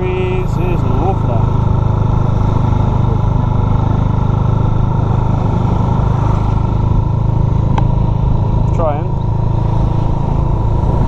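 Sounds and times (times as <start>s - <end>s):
motor scooter engine running: 0.0s - 11.0s
wind and road noise: 0.0s - 11.0s.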